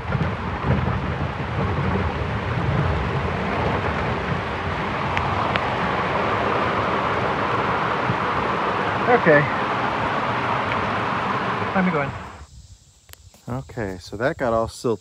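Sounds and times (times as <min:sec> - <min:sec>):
heavy rain downpour: 0:00.0 - 0:12.4
raindrops striking microphone: 0:00.0 - 0:12.4
golf cart low rumble: 0:00.0 - 0:12.5
wind on microphone: 0:00.0 - 0:13.4.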